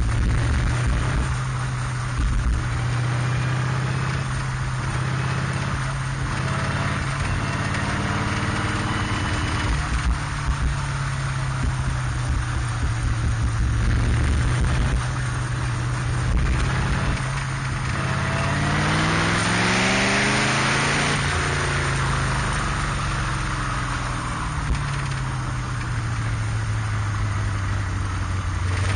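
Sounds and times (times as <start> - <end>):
race car engine running: 0.0 - 28.9
wind: 0.0 - 28.9.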